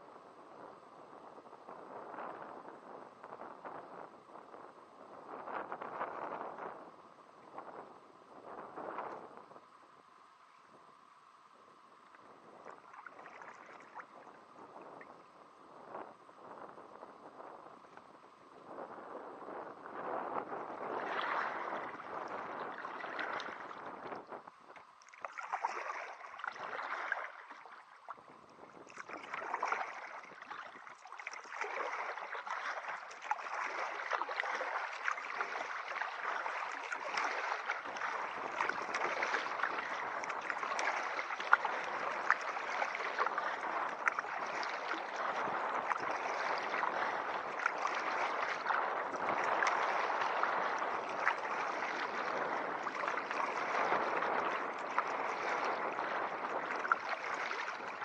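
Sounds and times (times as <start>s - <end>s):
water rushing around a kayak: 0.0s - 58.0s.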